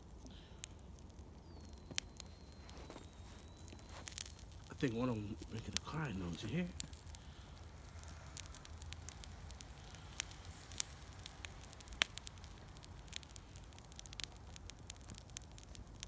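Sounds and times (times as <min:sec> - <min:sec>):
paper and cardboard fire crackling: 0:00.0 - 0:16.0
sharp pops and snaps: 0:00.0 - 0:16.0.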